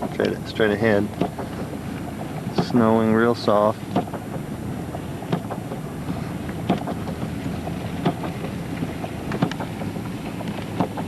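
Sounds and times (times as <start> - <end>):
engine and road noise inside minivan: 0.0 - 11.0.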